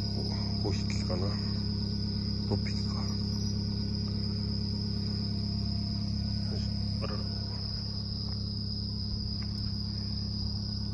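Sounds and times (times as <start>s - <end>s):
crickets trilling: 0.0s - 10.9s
steady low hum: 0.0s - 10.9s.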